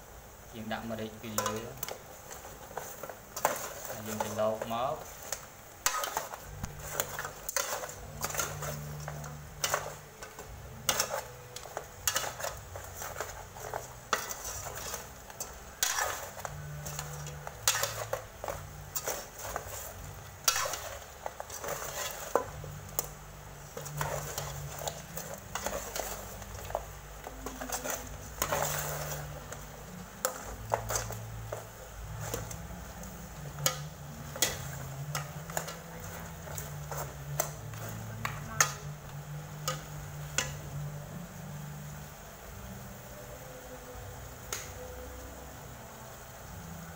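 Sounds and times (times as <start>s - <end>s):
metal ladle scraping pot: 1.3s - 39.0s.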